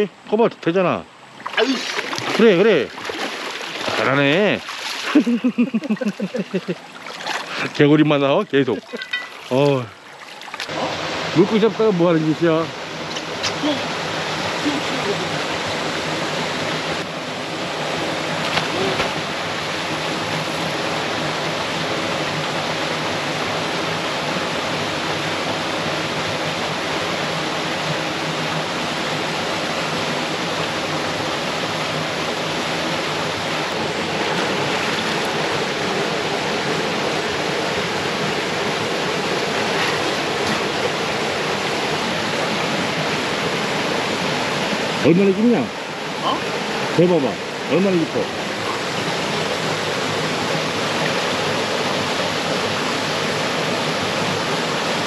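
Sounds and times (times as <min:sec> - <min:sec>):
stream water rushing: 0:01.0 - 0:55.0.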